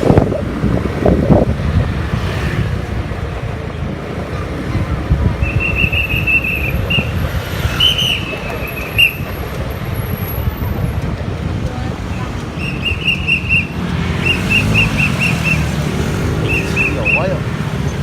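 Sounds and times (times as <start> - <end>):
vehicle rumbling: 0.0 - 18.0.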